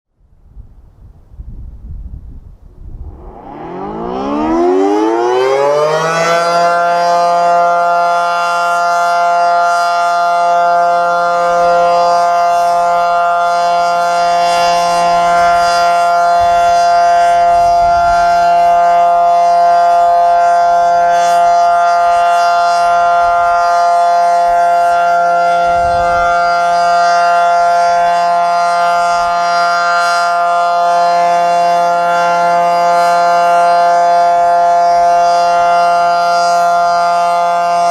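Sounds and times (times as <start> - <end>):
fire siren: 2.8 - 37.9.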